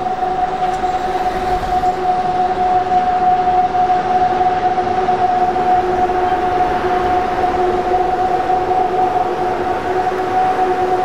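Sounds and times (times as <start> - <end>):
two-note locomotive whine: 0.0 - 11.0
wheels running on rail: 0.0 - 11.0.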